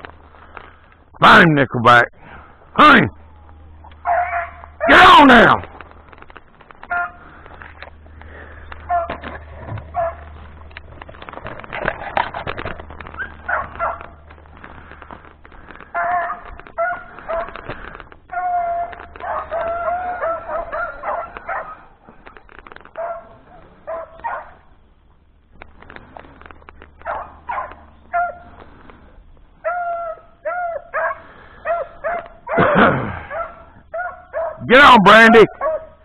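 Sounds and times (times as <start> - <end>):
hounds baying: 3.1 - 24.8, 26.8 - 36.0.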